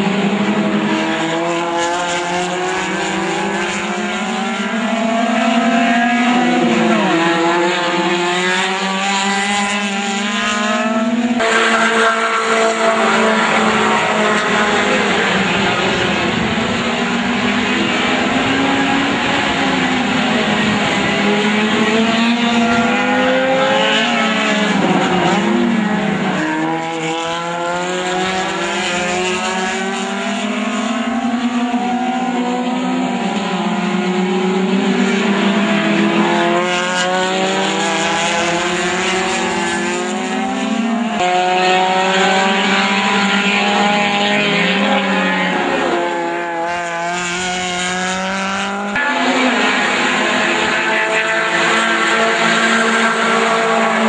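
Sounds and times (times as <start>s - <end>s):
race car engines running hard: 0.0s - 54.0s.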